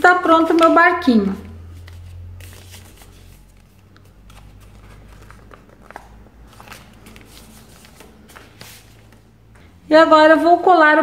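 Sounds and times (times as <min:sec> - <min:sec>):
paper rustling: 0:00.4 - 0:09.3.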